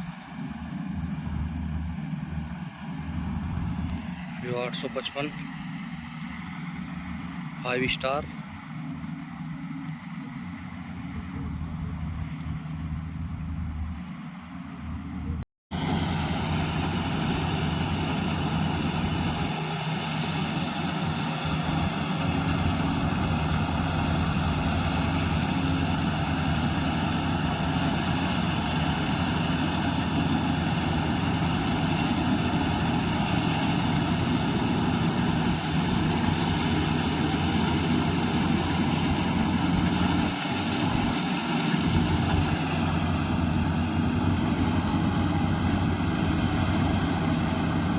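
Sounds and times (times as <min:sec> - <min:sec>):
combine harvester running: 0:00.0 - 0:47.9.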